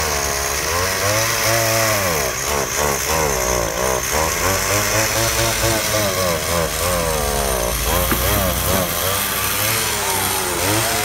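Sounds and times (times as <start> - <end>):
chainsaw engine revving: 0.0 - 11.0.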